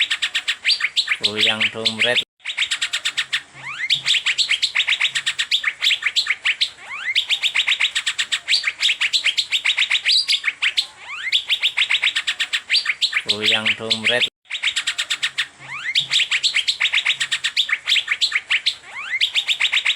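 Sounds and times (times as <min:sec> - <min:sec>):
bird singing sharp chirps: 0:00.0 - 0:19.9.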